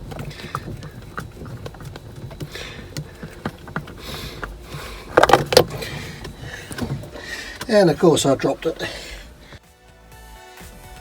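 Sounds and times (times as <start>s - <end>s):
metal filter clattering when dropped: 0.0s - 9.2s
oil filter clicks and scrapes: 0.0s - 9.6s.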